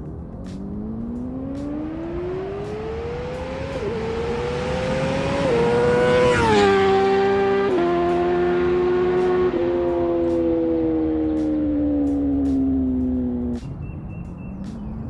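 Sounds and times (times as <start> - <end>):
motorcycle accelerating and passing: 0.0 - 15.0.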